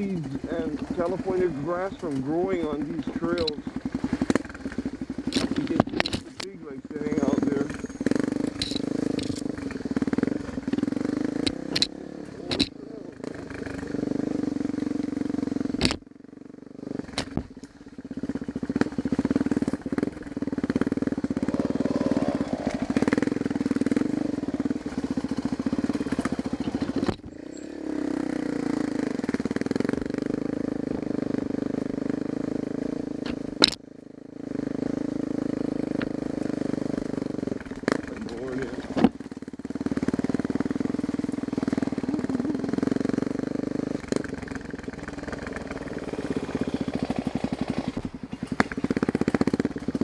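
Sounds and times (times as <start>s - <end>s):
dirt bike engine running: 0.0s - 50.0s.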